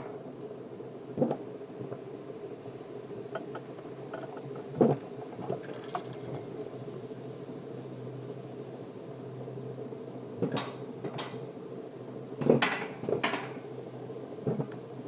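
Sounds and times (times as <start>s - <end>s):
coaster lift steady low hum: 0.0s - 15.0s.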